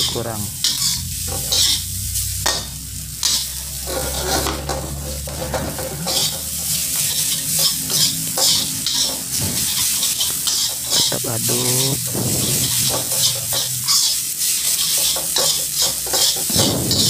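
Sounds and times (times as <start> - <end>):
metal spatula scraping: 0.0 - 17.0
rice sizzling in a wok: 0.0 - 17.0.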